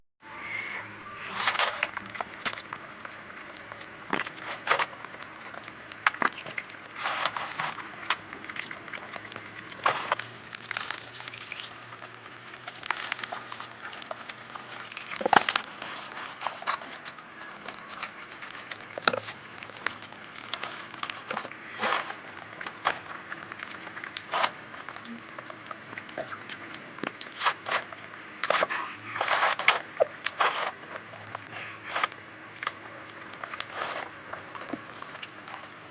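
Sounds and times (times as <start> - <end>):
crunchy bites and chewing: 1.3 - 35.9.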